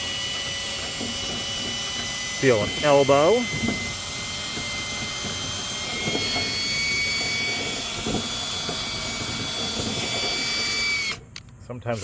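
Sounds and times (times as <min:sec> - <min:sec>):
power drill whining: 0:00.0 - 0:12.0.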